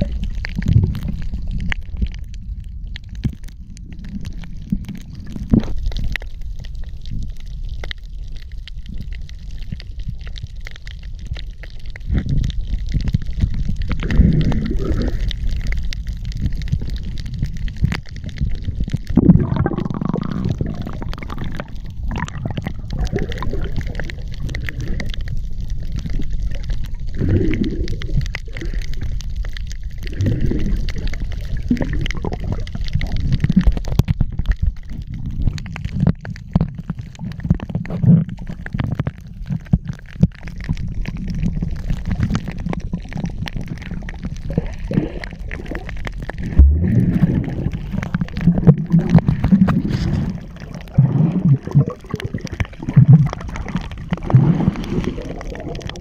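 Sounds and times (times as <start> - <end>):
gurgling water: 0.0 - 56.0
muffled underwater rumble: 0.0 - 56.0
small clicks and crackles: 0.0 - 56.0.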